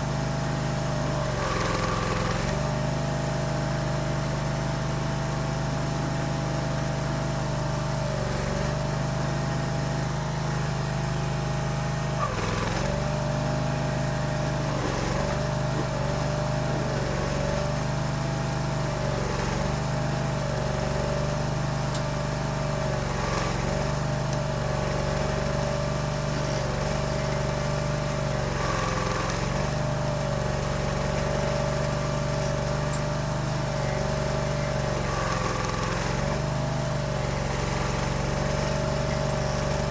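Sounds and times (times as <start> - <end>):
stump grinder engine under load: 0.0 - 39.9.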